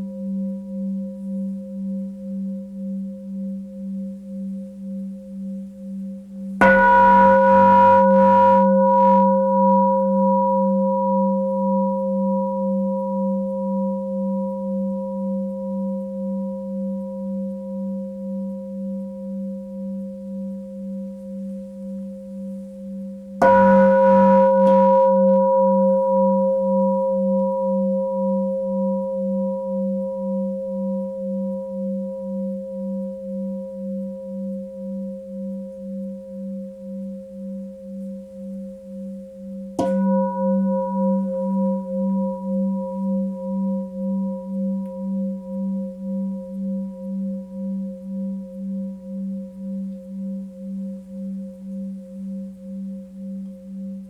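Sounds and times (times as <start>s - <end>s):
singing bowl ringing: 6.6s - 20.9s, 23.4s - 53.9s.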